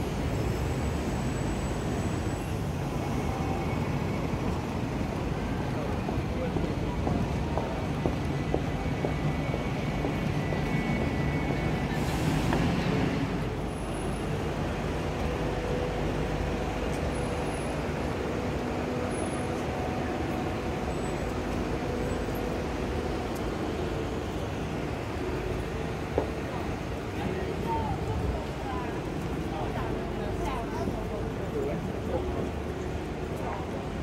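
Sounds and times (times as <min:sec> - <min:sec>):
street traffic passing: 0:00.0 - 0:34.0.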